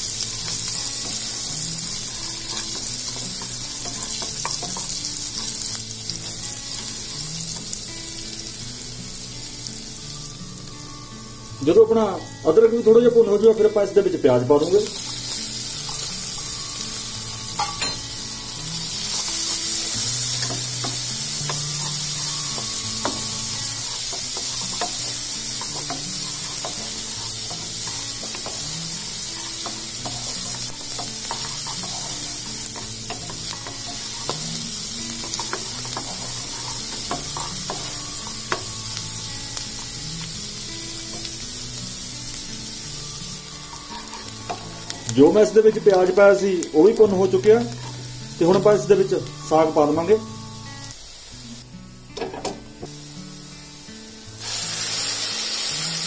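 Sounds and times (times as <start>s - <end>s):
onions sizzling in butter: 0.0s - 56.0s.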